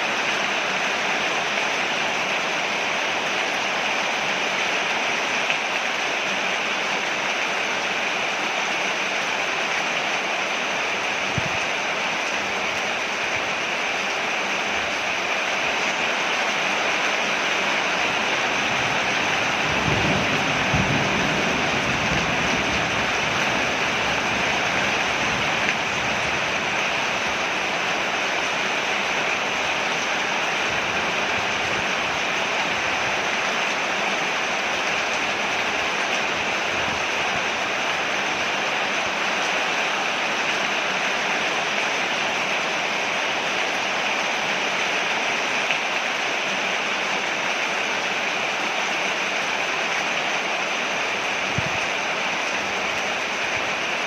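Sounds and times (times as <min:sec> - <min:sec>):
rain falling on a porch: 0:00.0 - 0:54.0.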